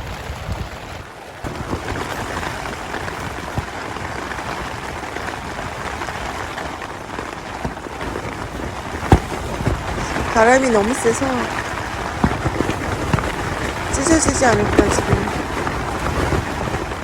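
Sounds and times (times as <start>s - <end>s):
gusting wind rumbling: 0.0s - 17.0s
rain pattering on tent fabric: 0.0s - 17.0s.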